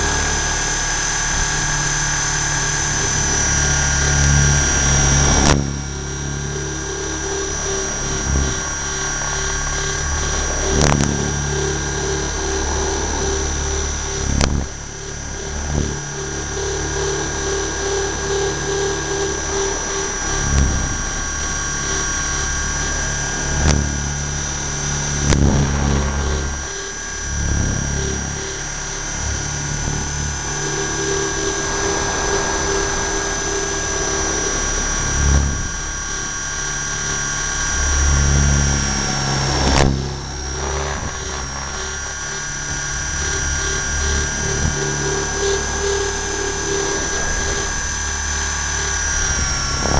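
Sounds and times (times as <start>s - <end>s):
low rumble: 0.0s - 49.9s
model helicopter motor whine: 0.0s - 49.9s.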